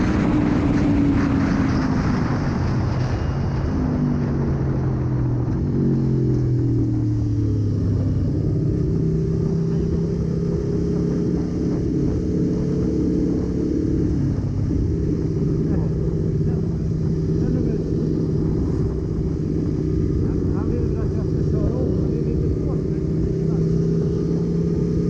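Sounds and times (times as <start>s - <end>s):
motorcycle engine running: 0.0s - 25.0s
wind noise: 0.0s - 25.0s.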